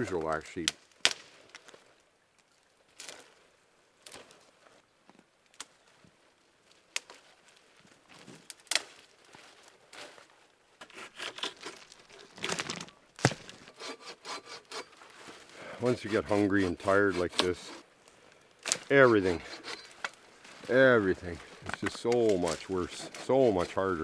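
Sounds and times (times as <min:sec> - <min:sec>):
rustling and crinkling: 0:00.9 - 0:13.8, 0:14.9 - 0:16.1, 0:18.0 - 0:24.0.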